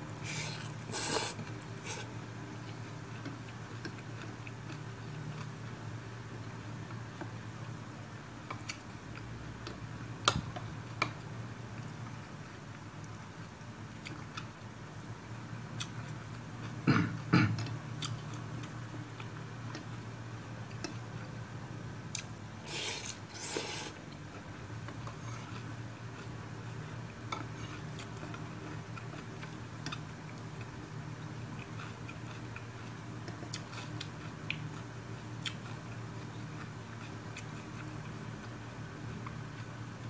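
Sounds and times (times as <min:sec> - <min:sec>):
soft chewing: 0:00.2 - 0:09.8, 0:10.6 - 0:21.4, 0:22.1 - 0:40.0.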